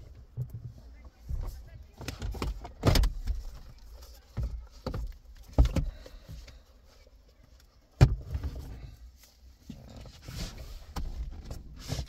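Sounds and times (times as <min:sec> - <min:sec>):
light plastic clatter and rustling: 0:00.1 - 0:12.0.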